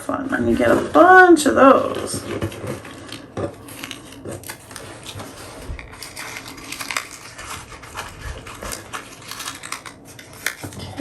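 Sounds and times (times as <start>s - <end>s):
rustling plastic and paper: 0.0s - 11.0s.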